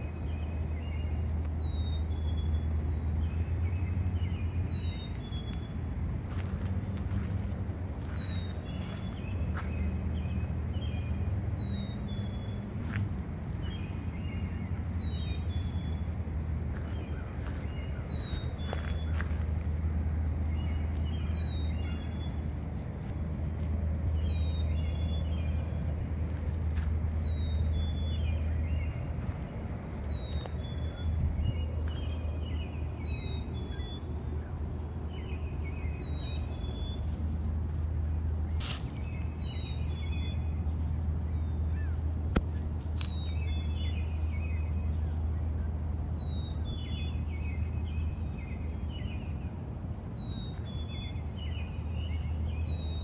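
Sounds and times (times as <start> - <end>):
songbird singing: 0.0 - 53.0
steady low rumble: 0.0 - 53.0.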